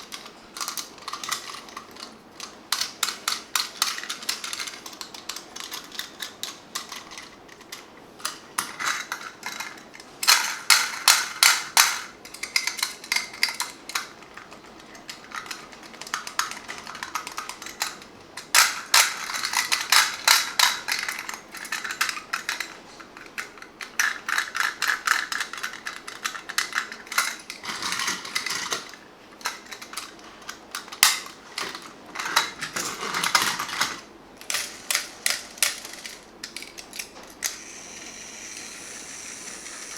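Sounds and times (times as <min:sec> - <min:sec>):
small plastic parts clicking: 0:00.0 - 0:37.7.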